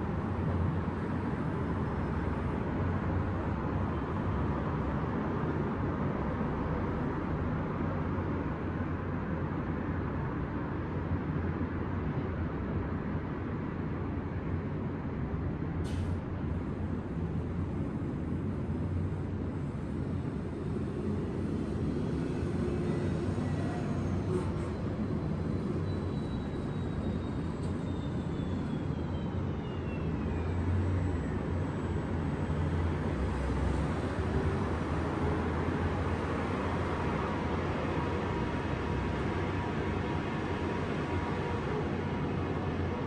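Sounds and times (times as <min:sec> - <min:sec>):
city traffic rumble: 0:00.0 - 0:43.0.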